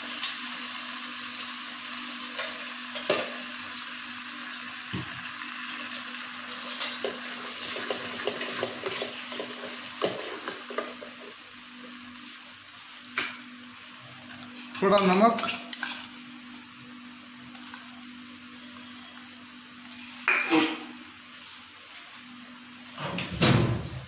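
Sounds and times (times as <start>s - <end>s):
sauce sizzling in a pan: 0.0s - 22.9s.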